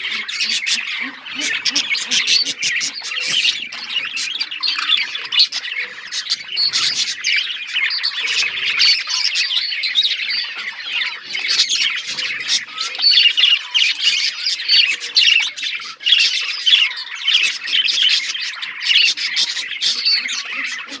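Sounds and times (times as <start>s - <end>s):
flock of budgerigars chattering: 0.0s - 21.0s.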